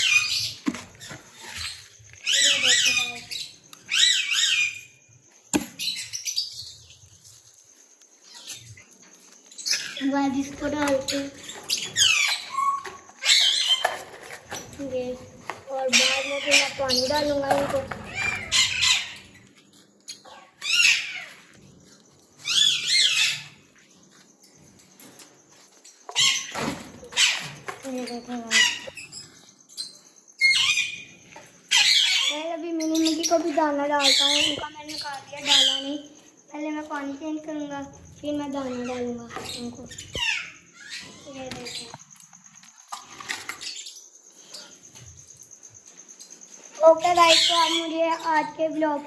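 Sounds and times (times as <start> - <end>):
parrots chirping: 0.0 - 7.4, 8.2 - 36.9, 37.7 - 49.0.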